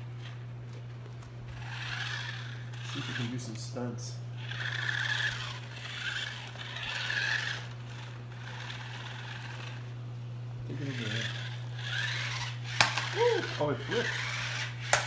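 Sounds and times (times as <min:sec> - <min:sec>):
toy car motor whirring: 0:01.4 - 0:09.9, 0:10.7 - 0:15.0.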